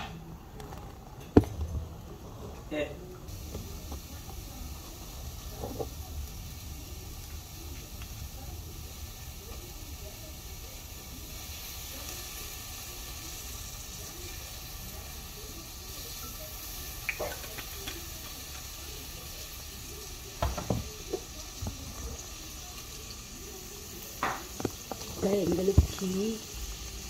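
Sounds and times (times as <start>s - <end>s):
onions sizzling in oil: 3.3s - 27.0s.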